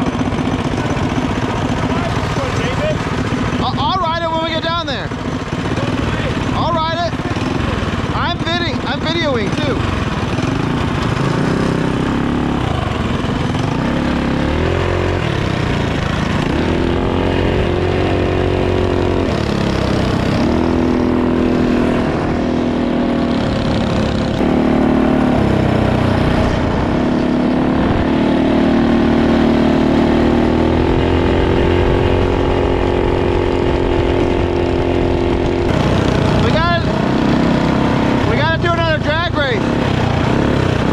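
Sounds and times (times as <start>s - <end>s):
minibike engines revving: 0.0s - 40.9s.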